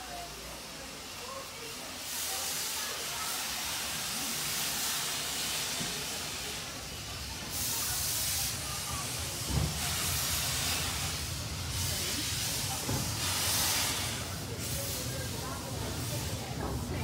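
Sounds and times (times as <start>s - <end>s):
rumble of rolling coaches: 0.0s - 17.0s
steam locomotive hissing: 0.0s - 17.0s.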